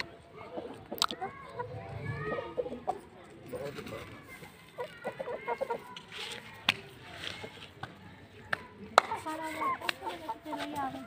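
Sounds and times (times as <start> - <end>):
chickens clucking: 0.0 - 7.9, 9.0 - 11.0.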